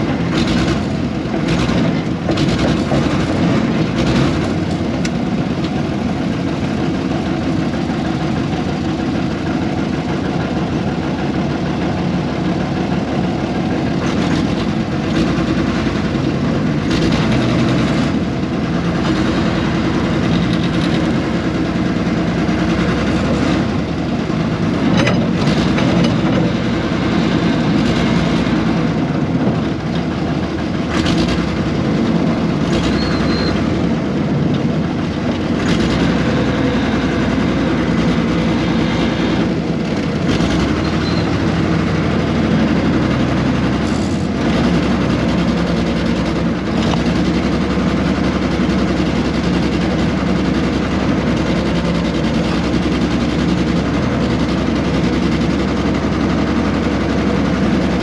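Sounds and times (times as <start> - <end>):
diesel excavator engine running: 0.0 - 58.0.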